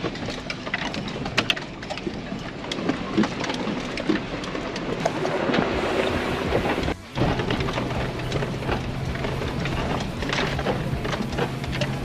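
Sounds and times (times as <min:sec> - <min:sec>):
tyres crunching over gravel: 0:00.0 - 0:12.0.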